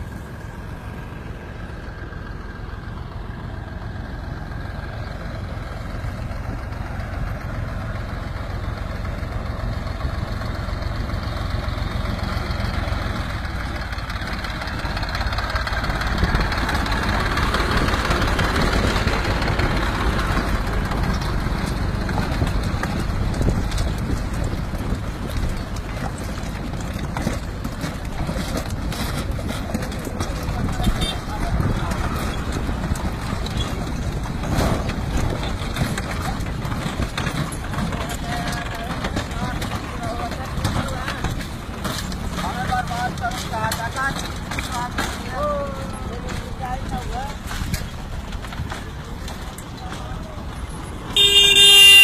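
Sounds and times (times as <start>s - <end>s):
vehicle rumble: 0.0s - 52.0s.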